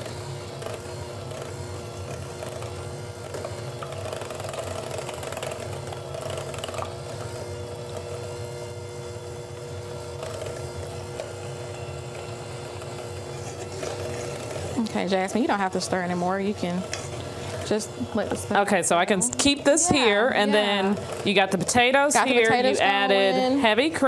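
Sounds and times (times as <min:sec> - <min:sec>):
electric hand mixer whining: 0:00.0 - 0:24.0.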